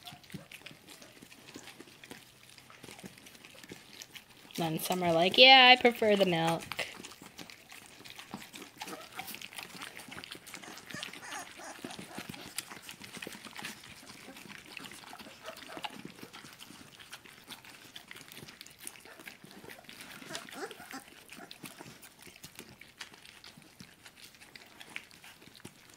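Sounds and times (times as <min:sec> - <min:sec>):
dogs lapping from a bowl: 0:00.0 - 0:25.9.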